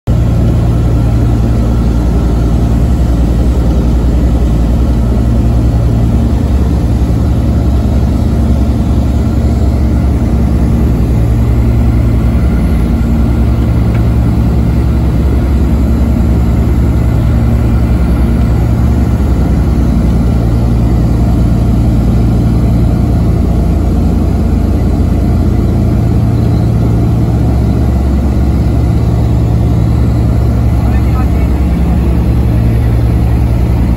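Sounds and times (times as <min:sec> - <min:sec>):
propeller engines droning: 0:00.1 - 0:33.9.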